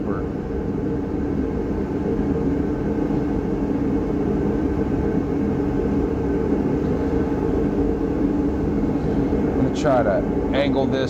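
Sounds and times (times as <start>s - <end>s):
faint steady tones: 0.0s - 11.0s
low background drone: 0.0s - 11.0s.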